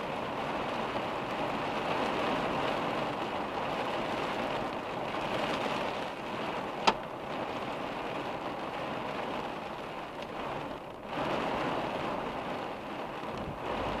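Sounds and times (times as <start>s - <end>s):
rain on car windshield and roof: 0.0s - 14.0s.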